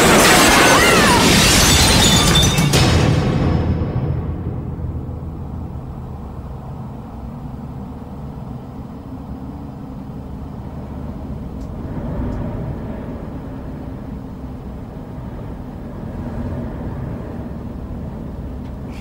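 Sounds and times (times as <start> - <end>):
low rumbling drone: 3.4 - 19.0.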